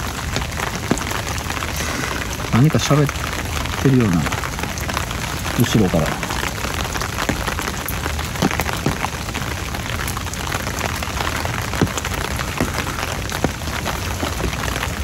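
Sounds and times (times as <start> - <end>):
rain pattering on an umbrella: 0.0 - 15.0.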